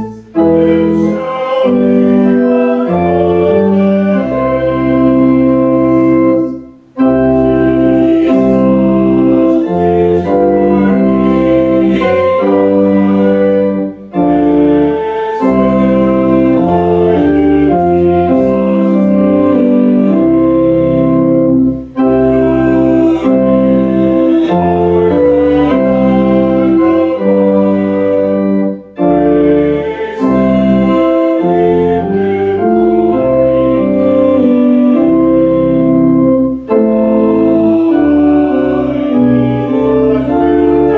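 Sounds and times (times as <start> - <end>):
organ playing sustained chords: 0.0 - 40.9.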